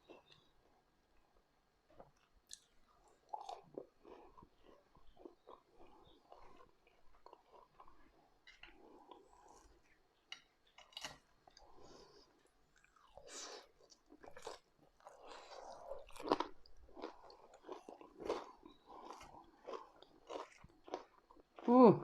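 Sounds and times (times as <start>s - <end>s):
person chewing food: 0.0s - 21.7s.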